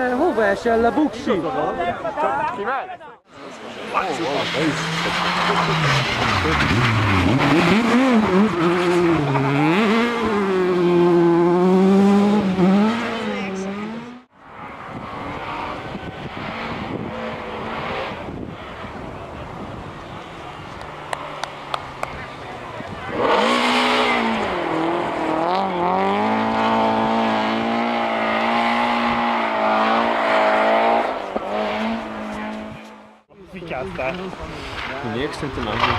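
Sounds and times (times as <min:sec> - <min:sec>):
rally car engine revving: 0:03.4 - 0:33.3, 0:34.6 - 0:35.9.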